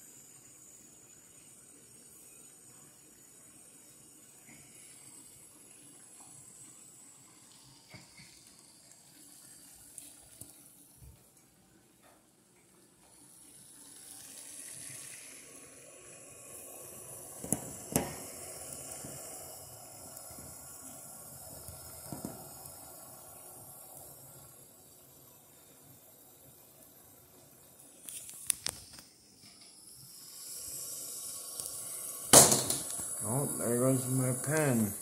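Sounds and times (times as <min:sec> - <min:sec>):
water boiling and bubbling: 0:00.0 - 0:35.0.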